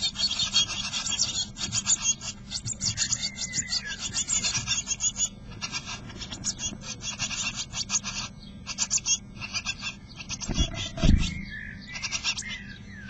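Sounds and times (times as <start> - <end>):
nestlings begging calls: 0.0 - 13.0.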